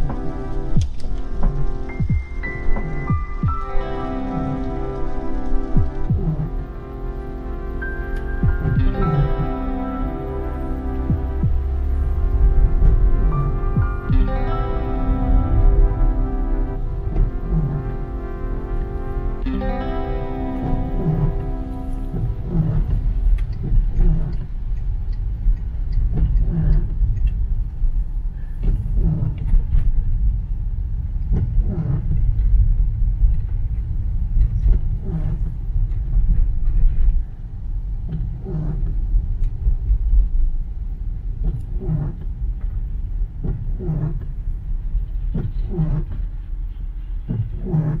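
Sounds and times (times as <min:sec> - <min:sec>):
car cabin road rumble: 0:00.0 - 0:48.0
windscreen wipers sweeping: 0:00.0 - 0:48.0.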